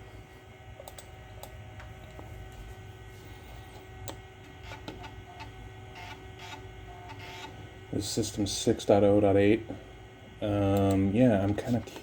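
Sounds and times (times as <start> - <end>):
computer fan and hard drive hum: 0.0 - 12.0.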